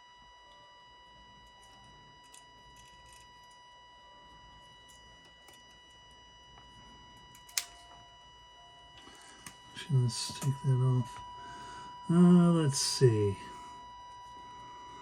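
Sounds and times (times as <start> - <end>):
buzzy test tone: 0.0 - 15.0.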